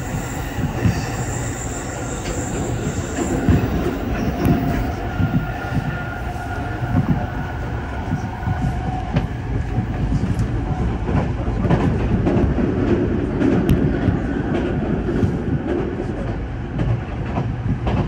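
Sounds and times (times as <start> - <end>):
train wheels rumbling on rails: 0.0 - 18.0
clicks of train wheels: 0.1 - 5.9, 8.1 - 18.0.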